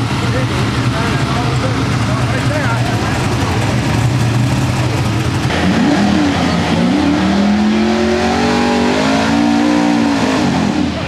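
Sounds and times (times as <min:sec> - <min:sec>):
truck engine revving: 0:01.4 - 0:10.4.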